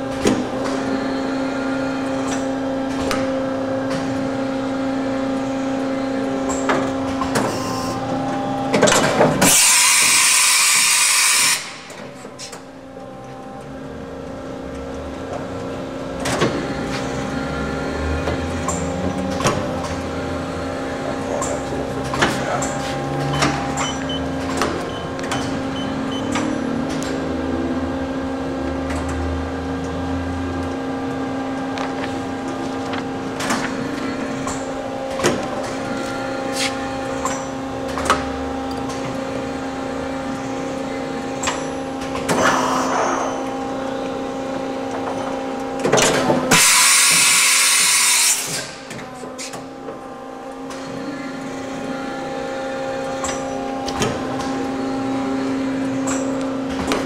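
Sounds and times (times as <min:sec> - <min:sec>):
machine hum: 0:00.0 - 0:57.0.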